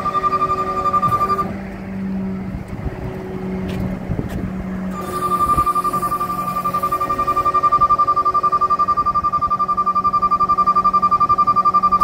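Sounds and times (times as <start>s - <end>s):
steady high-pitched tone: 0.0s - 2.4s, 4.7s - 12.0s
truck engine running: 0.0s - 12.0s.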